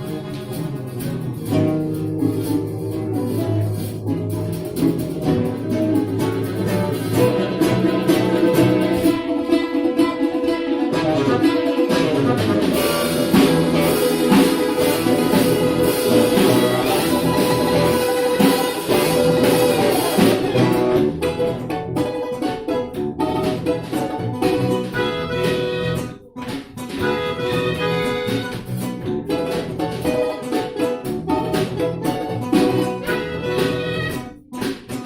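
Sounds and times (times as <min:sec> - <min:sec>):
instrumental ensemble music: 0:00.0 - 0:35.0.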